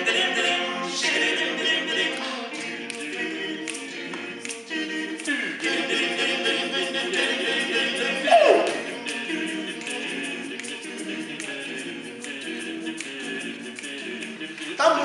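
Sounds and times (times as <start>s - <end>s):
male vocal quartet singing: 0.0s - 15.0s.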